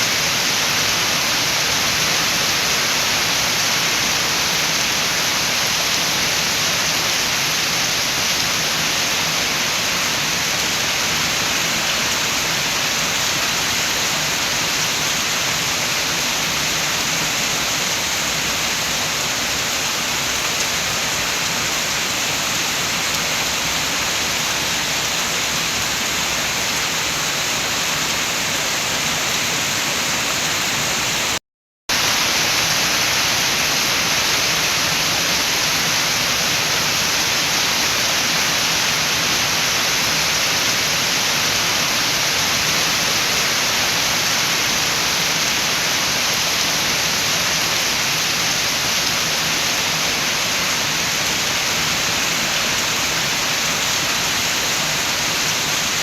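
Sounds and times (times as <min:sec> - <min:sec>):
steady rain with wind: 0:00.0 - 0:56.0.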